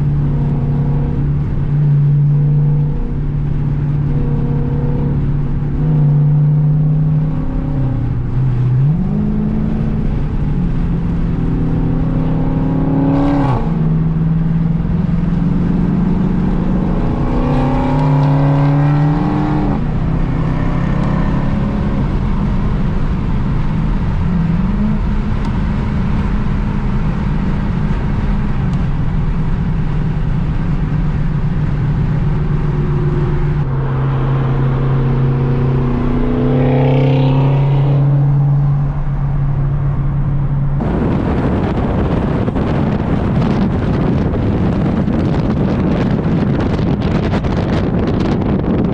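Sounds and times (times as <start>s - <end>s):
car engine accelerating and shifting: 0.0s - 48.9s.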